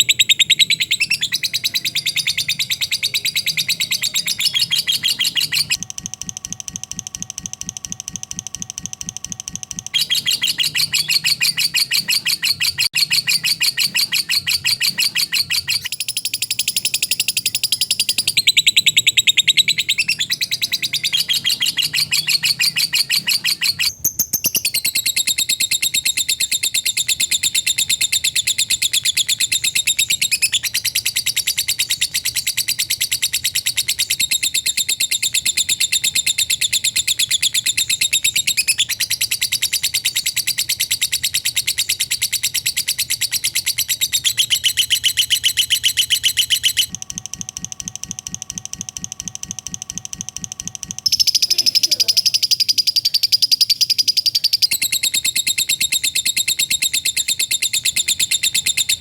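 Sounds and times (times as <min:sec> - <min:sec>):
lovebird high-pitched chatter: 0:00.0 - 0:05.8, 0:09.0 - 0:47.0, 0:48.4 - 0:59.0.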